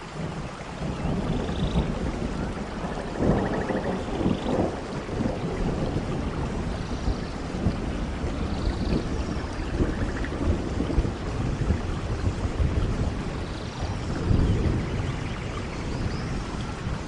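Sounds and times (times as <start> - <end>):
steady rain falling: 0.0 - 17.0
thunder rumbling: 0.0 - 17.0.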